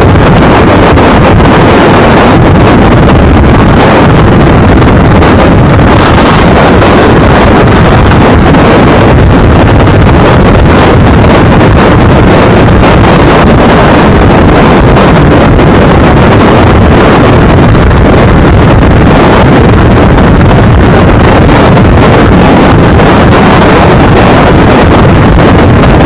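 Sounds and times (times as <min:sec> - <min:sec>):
low rumble: 0:00.0 - 0:26.0
wind buffeting microphone: 0:00.0 - 0:26.0.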